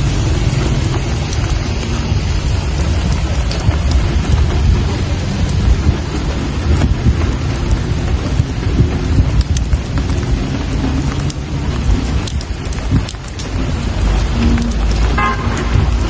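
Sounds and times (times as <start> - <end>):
raindrop ticks: 0.0 - 16.0
steady rain falling: 0.0 - 16.0.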